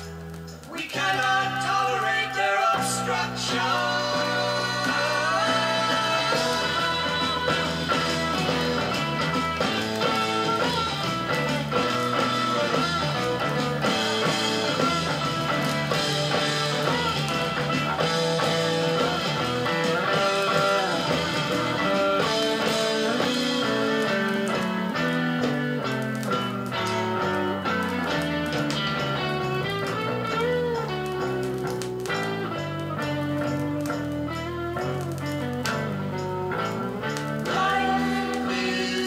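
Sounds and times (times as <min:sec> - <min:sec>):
electric guitar: 0:00.0 - 0:39.0
psychedelic rock from a record: 0:00.0 - 0:39.0.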